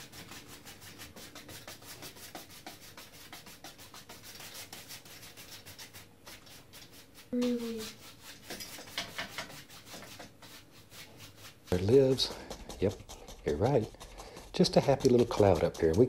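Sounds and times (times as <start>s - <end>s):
paintbrush scrubbing on canvas: 0.0s - 16.0s.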